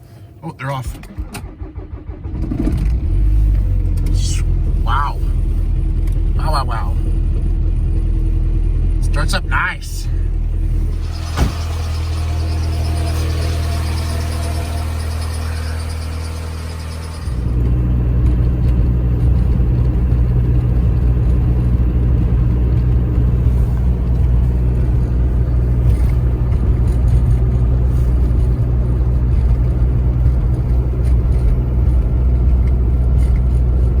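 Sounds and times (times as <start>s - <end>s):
diesel engine idling: 3.0s - 34.0s.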